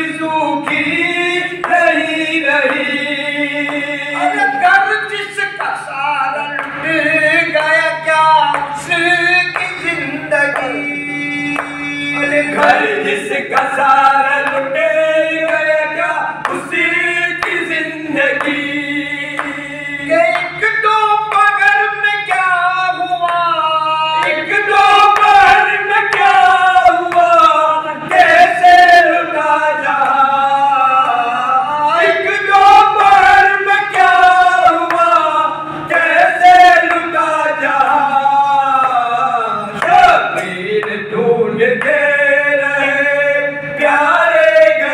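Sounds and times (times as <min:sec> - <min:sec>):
men singing in unison: 0:00.0 - 0:44.9
steady low hum: 0:00.0 - 0:44.9.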